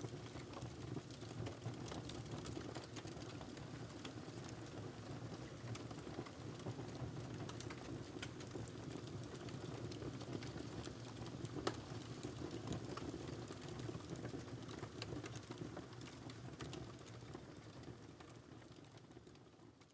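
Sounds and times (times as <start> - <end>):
fire crackling and popping: 0.2 - 17.2.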